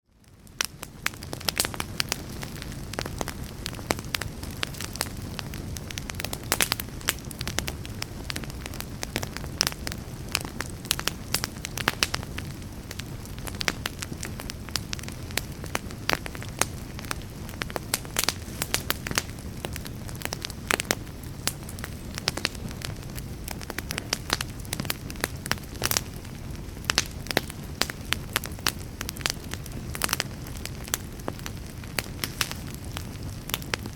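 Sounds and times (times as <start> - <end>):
fire crackling and popping: 0.0 - 33.9
low rumble of flames: 0.0 - 33.9.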